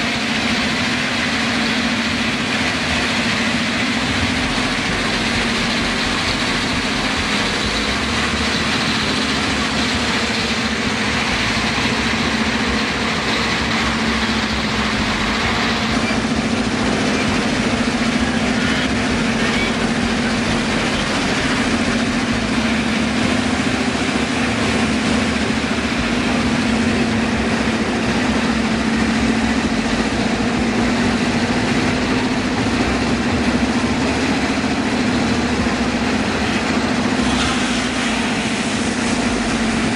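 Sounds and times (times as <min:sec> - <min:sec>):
constant machinery hum: 0:00.0 - 0:39.9
conveyors running: 0:00.0 - 0:39.9
vibrating screens: 0:00.0 - 0:39.9.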